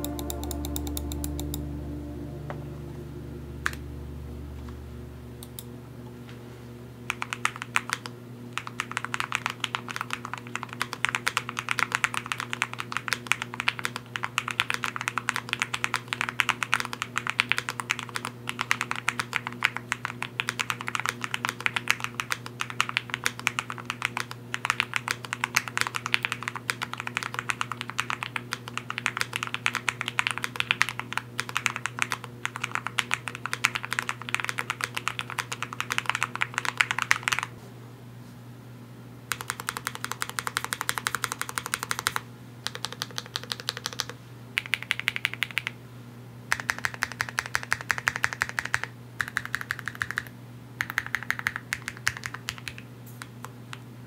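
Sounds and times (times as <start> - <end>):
mechanical keyboard typing: 7.1 - 37.5, 39.3 - 45.8, 46.5 - 53.3.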